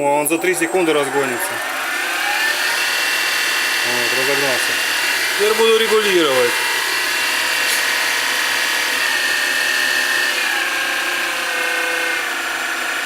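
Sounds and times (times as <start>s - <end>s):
lathe motor whining: 0.0s - 13.0s.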